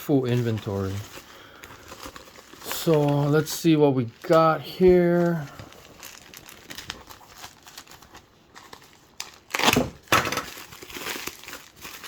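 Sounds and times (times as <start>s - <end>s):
packaging crinkling and rustling: 0.0s - 12.0s
packaging ripping: 0.0s - 12.0s.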